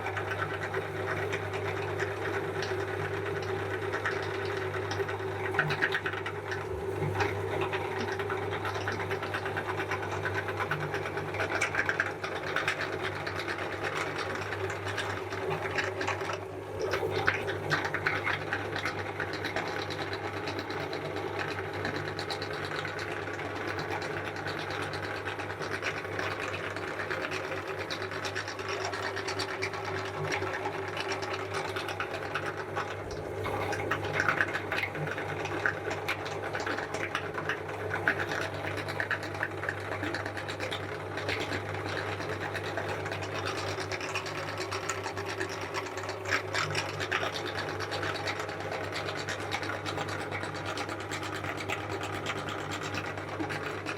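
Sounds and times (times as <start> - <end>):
meat grinder motor humming: 0.0 - 53.9.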